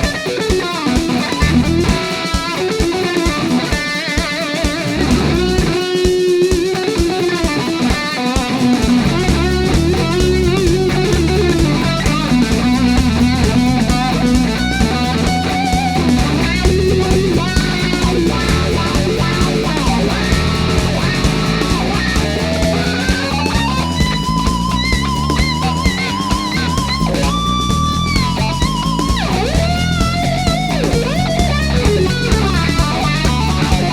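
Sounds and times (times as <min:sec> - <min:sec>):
rock music with electric guitar: 0:00.0 - 0:33.9.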